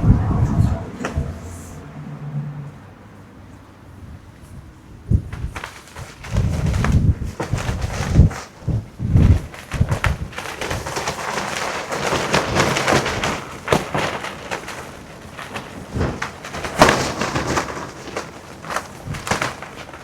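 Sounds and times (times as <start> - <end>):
clothing flapping in wind: 0.0 - 2.8, 3.4 - 20.0
gusting wind: 0.0 - 20.0.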